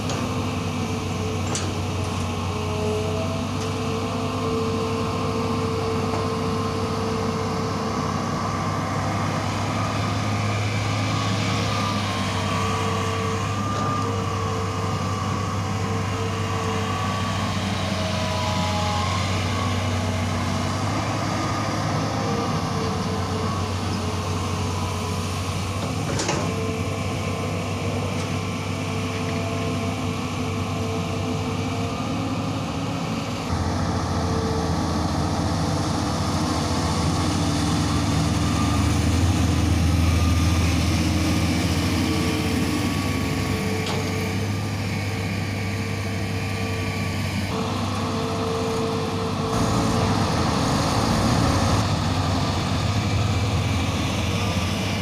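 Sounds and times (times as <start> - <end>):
heavy diesel engines droning: 0.0 - 55.0.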